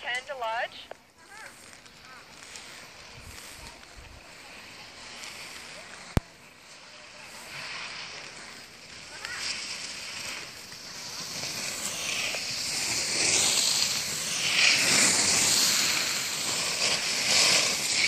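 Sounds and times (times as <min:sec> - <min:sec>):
skis carving on snow: 0:00.0 - 0:18.0.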